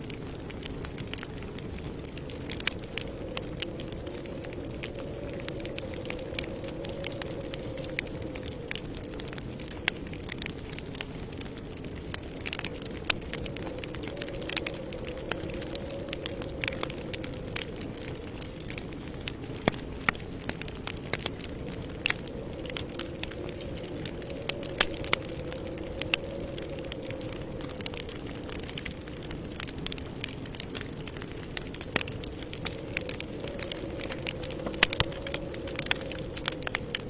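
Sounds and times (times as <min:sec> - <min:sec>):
campfire flames rushing: 0:00.0 - 0:37.0
fire crackling and popping: 0:00.0 - 0:37.0.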